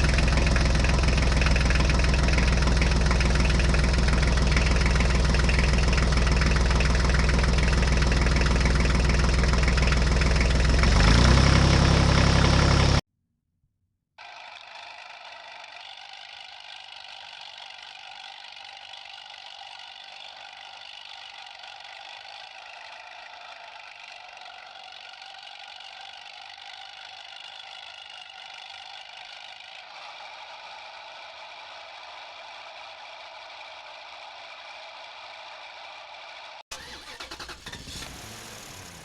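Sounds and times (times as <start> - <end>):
toy vehicle engine buzz: 0.0 - 13.0, 14.2 - 39.0.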